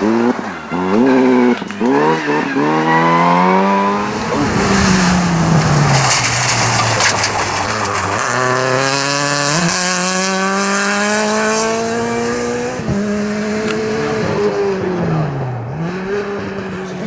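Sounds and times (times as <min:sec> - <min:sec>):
rally car engine accelerating: 0:00.0 - 0:17.0.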